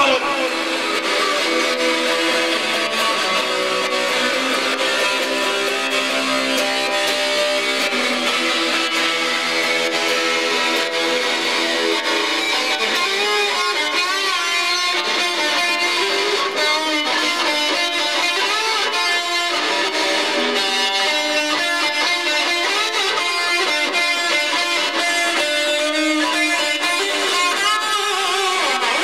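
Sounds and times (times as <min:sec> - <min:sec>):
electric guitar playing: 0:00.0 - 0:29.0.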